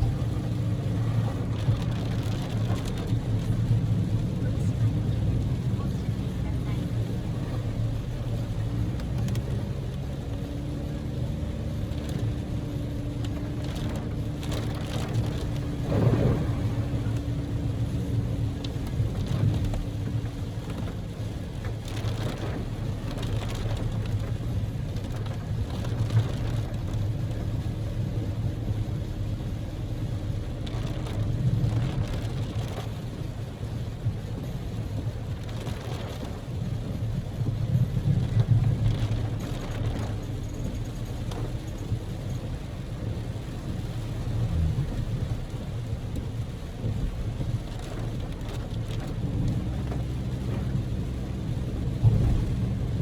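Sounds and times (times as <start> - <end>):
car engine drone: 0.0 - 53.0
rain on a car: 0.0 - 53.0.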